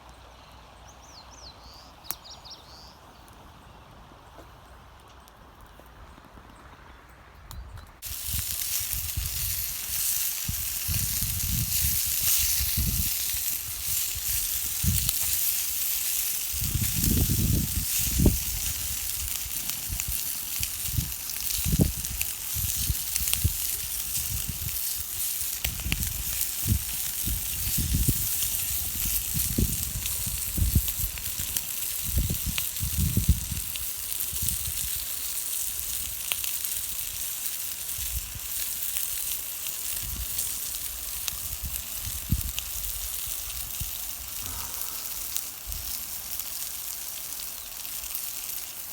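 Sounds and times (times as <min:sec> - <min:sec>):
food sizzling over campfire: 0:08.0 - 0:48.9.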